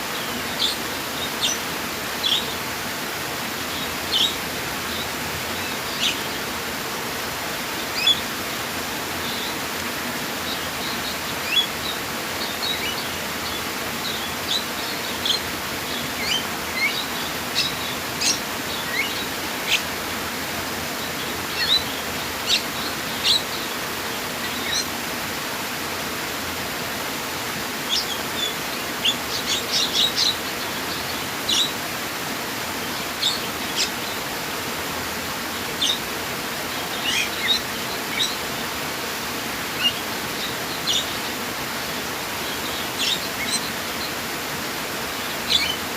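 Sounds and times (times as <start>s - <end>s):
small birds chirping: 0.0s - 2.7s, 3.5s - 6.8s, 7.6s - 25.0s, 27.4s - 34.8s, 35.4s - 45.9s
flowing water rushing: 0.0s - 45.9s.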